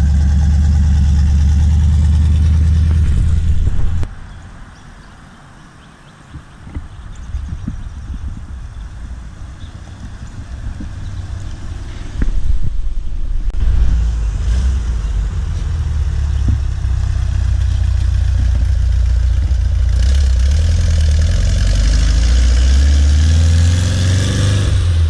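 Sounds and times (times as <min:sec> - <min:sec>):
car engine rumbling and revving: 0:00.0 - 0:04.4, 0:06.7 - 0:25.0.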